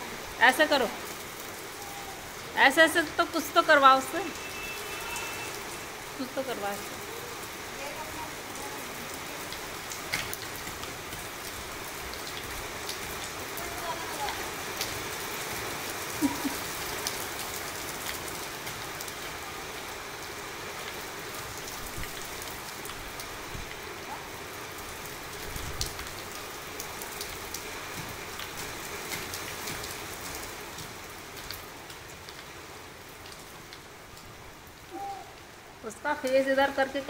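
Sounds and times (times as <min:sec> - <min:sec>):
rain on tiled roof: 0:00.0 - 0:37.0.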